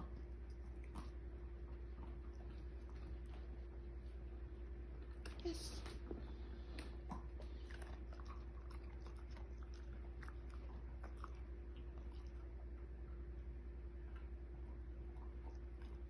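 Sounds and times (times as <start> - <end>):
dog chewing: 0.0 - 16.0
low hum: 0.0 - 16.0.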